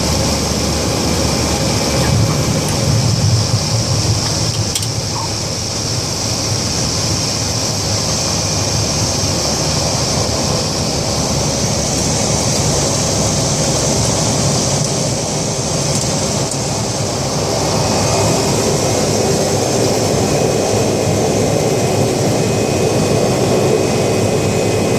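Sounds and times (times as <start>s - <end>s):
steady whine: 0.0s - 24.9s
turboprop engine and propeller: 0.0s - 24.9s.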